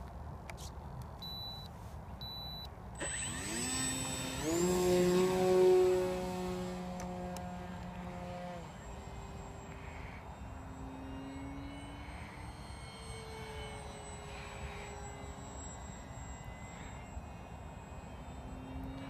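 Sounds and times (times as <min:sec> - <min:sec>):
electric model plane motor whine: 0:03.0 - 0:19.0.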